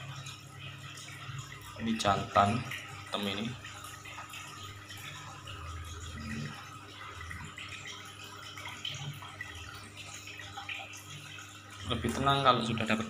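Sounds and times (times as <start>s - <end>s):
aquarium water bubbling: 0.0s - 13.0s.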